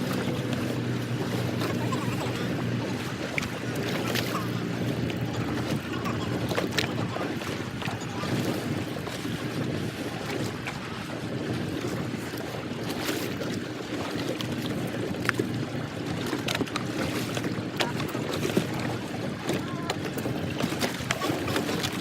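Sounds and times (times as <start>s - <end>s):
boat engine hum: 0.0s - 22.0s
water noise: 0.0s - 22.0s
wind on microphone: 0.0s - 22.0s.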